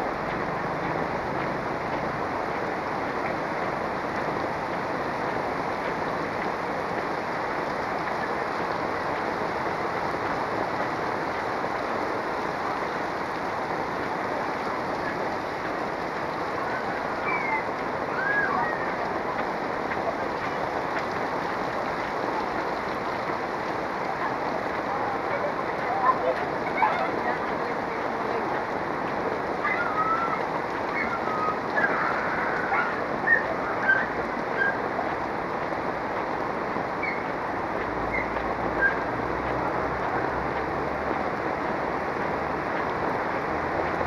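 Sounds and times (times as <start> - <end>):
heavy rain on street and roofs: 0.0 - 44.0.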